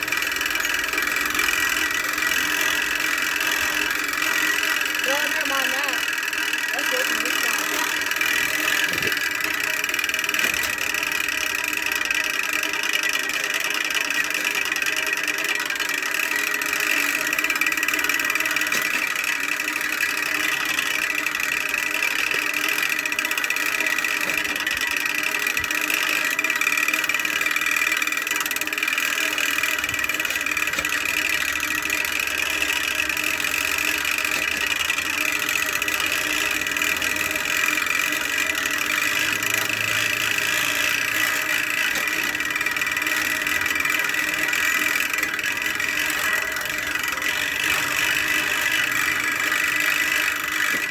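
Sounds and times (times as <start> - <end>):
bicycle drivetrain whirring: 0.0 - 50.9.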